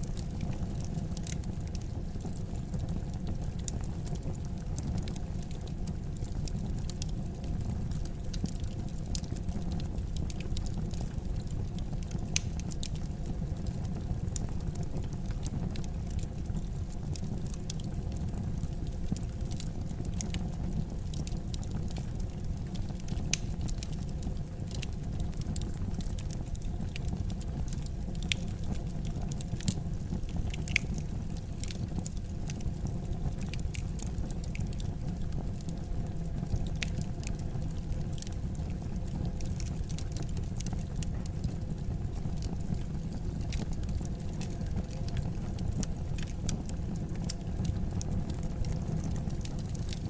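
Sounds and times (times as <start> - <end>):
fire crackling: 0.0 - 50.0.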